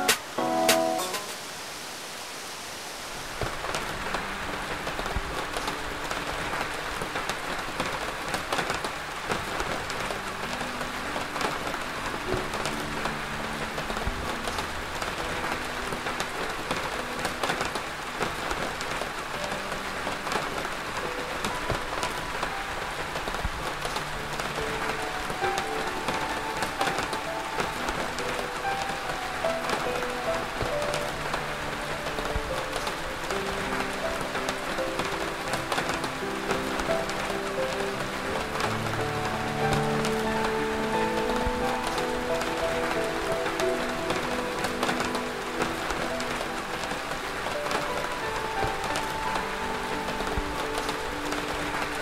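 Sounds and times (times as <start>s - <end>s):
soft background music: 0.0s - 1.9s, 3.1s - 52.0s
rain falling: 0.0s - 52.0s.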